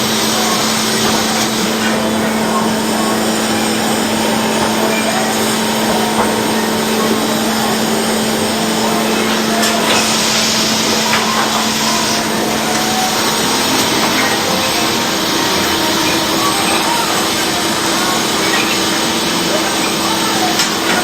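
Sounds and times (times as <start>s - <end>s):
bright machine hiss: 0.0s - 21.0s
sawmill machinery running: 0.0s - 21.0s.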